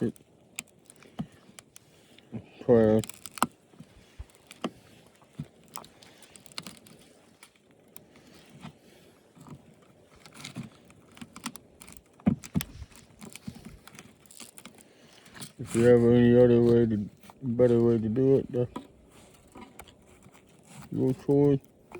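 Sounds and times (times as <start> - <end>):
plastic and metal parts rattling: 0.0 - 7.6, 9.4 - 21.9.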